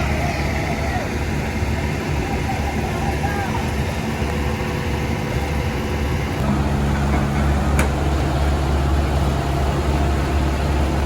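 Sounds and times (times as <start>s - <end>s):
truck diesel engine under load: 0.0s - 11.0s.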